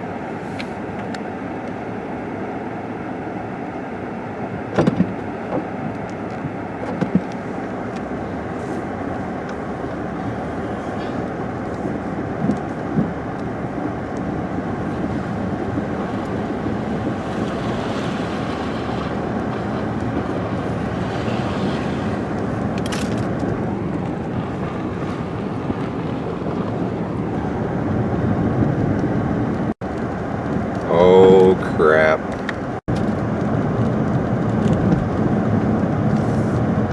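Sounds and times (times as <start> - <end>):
car road and engine noise: 0.0 - 36.9.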